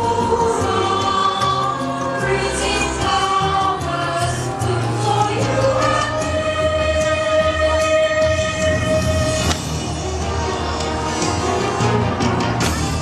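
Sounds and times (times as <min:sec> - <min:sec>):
choir singing held notes: 0:00.0 - 0:12.2.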